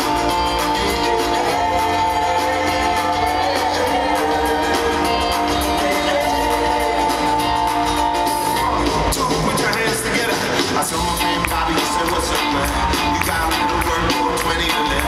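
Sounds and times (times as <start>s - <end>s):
bass line: 0.0s - 15.0s
guitar: 0.0s - 15.0s
person singing: 0.0s - 15.0s.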